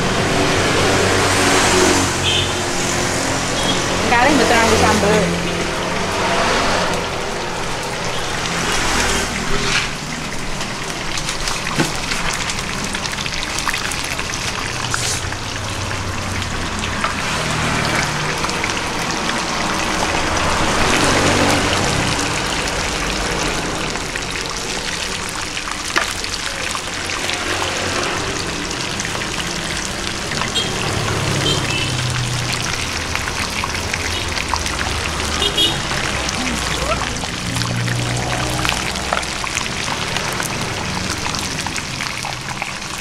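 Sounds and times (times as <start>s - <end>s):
food frying in hot oil: 0.0s - 43.0s.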